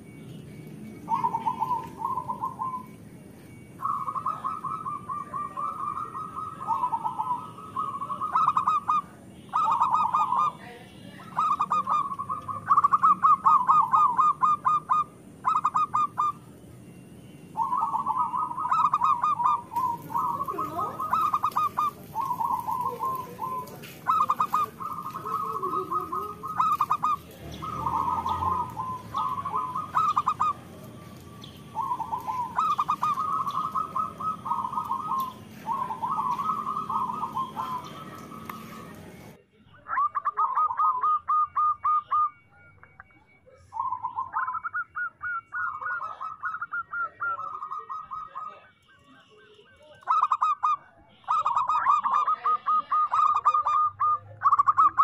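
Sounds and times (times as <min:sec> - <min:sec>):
dove cooing: 0:00.0 - 0:48.8, 0:50.0 - 0:55.0.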